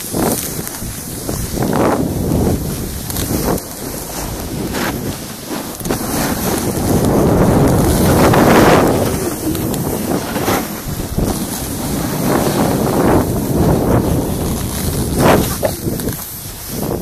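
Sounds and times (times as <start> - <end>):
snowboard scraping on snow: 0.0 - 17.0
wind rushing over microphone: 0.0 - 17.0.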